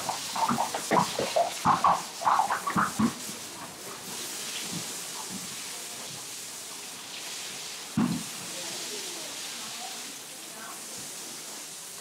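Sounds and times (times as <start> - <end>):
hose spraying water: 0.0 - 12.0.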